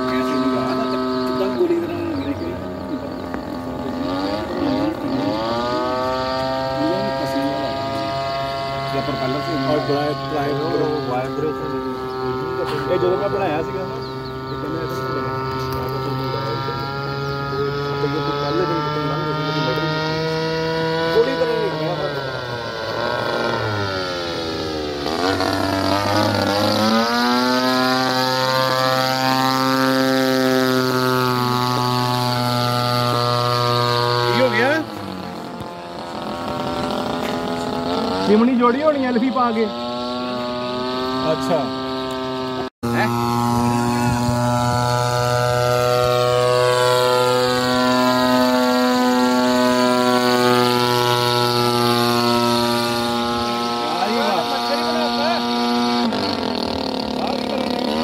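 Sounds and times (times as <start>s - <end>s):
model plane engine overhead: 0.0s - 58.0s.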